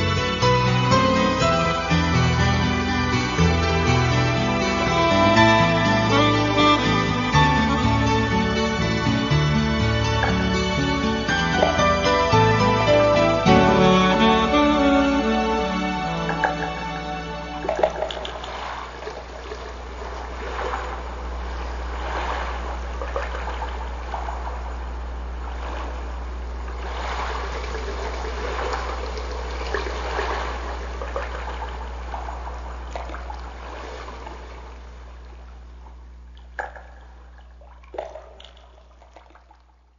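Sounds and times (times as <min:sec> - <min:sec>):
steady low hum: 0:00.0 - 0:39.9
water trickling and gurgling: 0:00.0 - 0:39.9.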